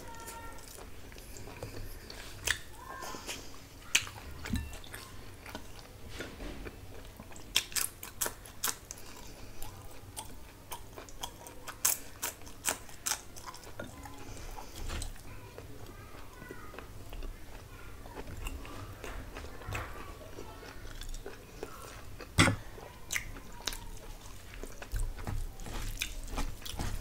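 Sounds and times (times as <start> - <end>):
close chewing of food: 0.0 - 27.0.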